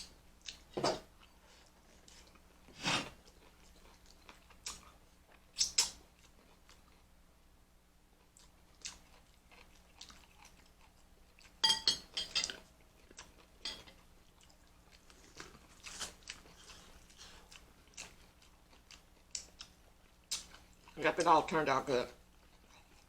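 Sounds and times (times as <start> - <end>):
chewing and crunching food: 0.0 - 7.1, 8.1 - 11.6, 12.2 - 23.0.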